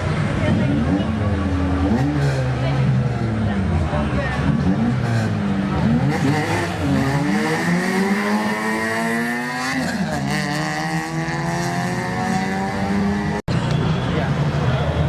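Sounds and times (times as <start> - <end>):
drag racing car accelerating: 0.3 - 13.5.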